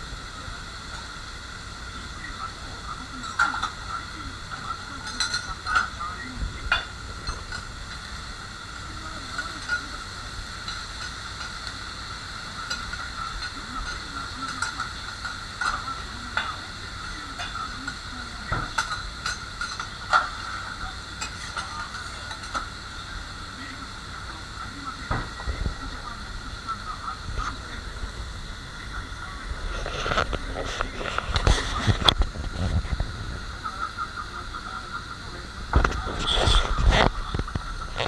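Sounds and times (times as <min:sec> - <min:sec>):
food sizzling on a griddle: 0:00.0 - 0:38.0.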